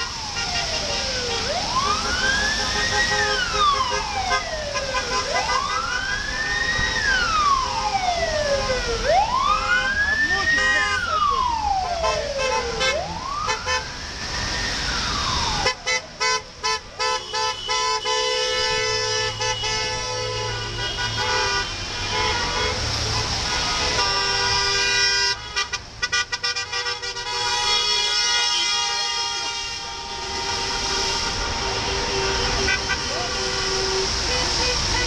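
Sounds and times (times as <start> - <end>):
car horns honking: 0.0 - 7.1, 8.6 - 11.3, 12.0 - 13.8, 15.6 - 35.0
ambulance siren wailing: 0.0 - 21.3, 27.9 - 35.0
slow traffic rumble: 0.0 - 35.0.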